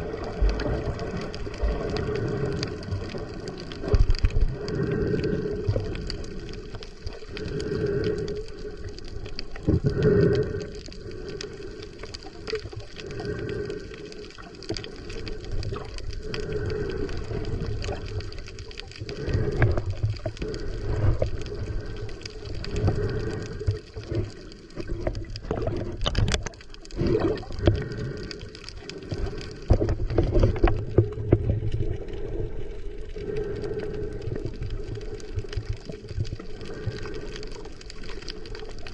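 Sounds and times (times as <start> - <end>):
small underwater clicks: 0.0 - 38.9
water sloshing and bubbling underwater: 0.0 - 38.9.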